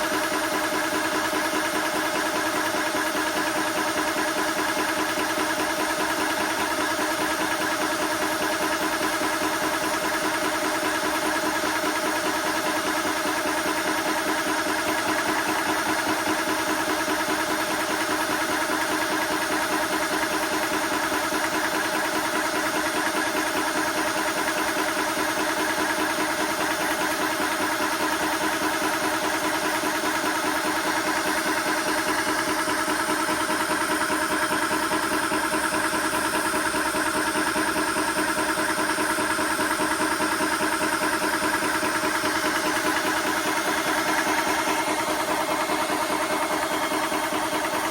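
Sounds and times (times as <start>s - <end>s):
air compressor running: 0.0s - 47.9s.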